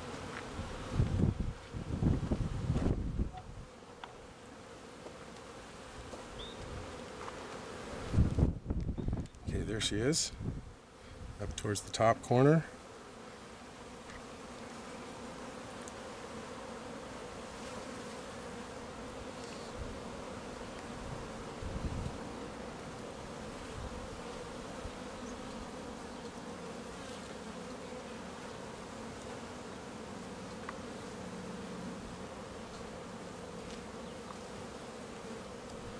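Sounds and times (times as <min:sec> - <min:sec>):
bees buzzing: 0:00.0 - 0:35.9.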